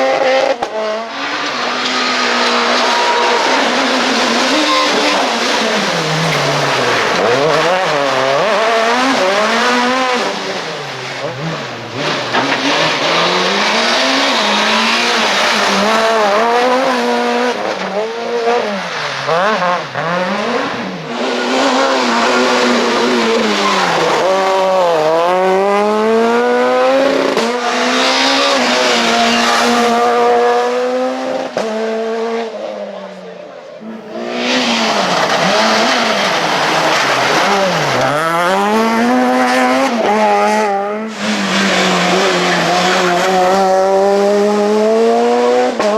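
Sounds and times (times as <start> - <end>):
rally car engine revving: 0.0 - 45.9.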